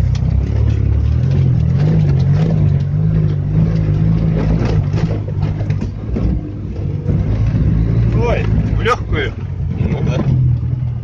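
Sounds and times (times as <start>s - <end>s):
body knocking and clattering: 0.0s - 11.0s
buggy engine at high revs: 0.0s - 11.0s.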